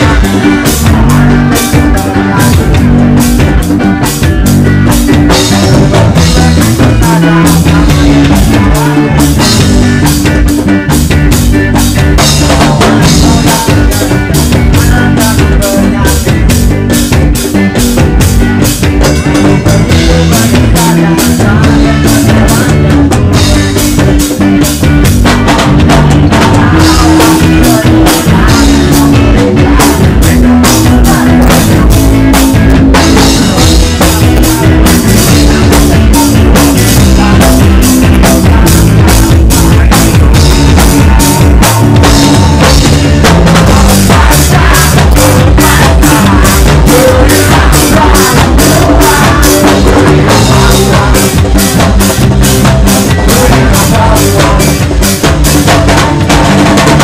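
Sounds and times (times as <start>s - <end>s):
drum kit beat: 0.0s - 57.0s
live reggae band playing: 0.0s - 57.0s.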